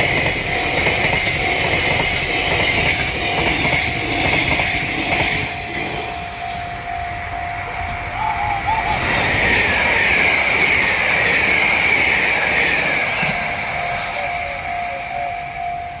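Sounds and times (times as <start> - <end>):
level crossing warning alarm: 0.0 - 16.0
train passing with falling whine: 0.0 - 16.0.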